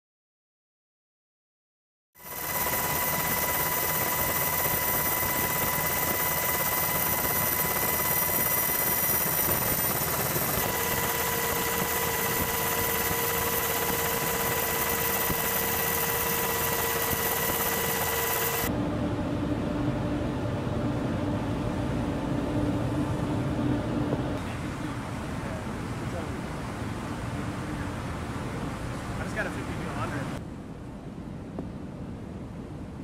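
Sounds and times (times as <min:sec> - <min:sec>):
helicopter engine and rotor noise: 0:02.2 - 0:30.4
high turbine whines: 0:02.2 - 0:30.4.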